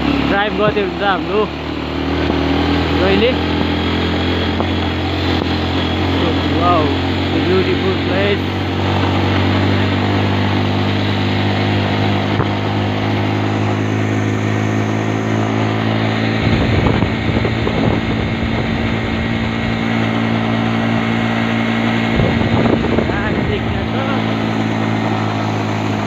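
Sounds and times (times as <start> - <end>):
rough low rumble: 0.0 - 26.0
vehicle engine running: 0.0 - 26.0.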